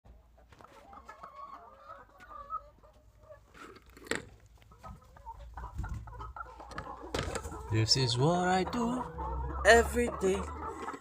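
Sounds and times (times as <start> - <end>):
hens clucking: 0.1 - 11.0.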